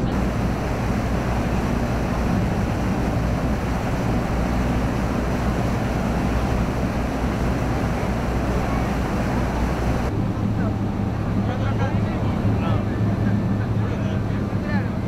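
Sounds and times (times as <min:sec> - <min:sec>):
boat engine humming: 0:00.0 - 0:15.0
water rushing behind boat: 0:00.0 - 0:15.0.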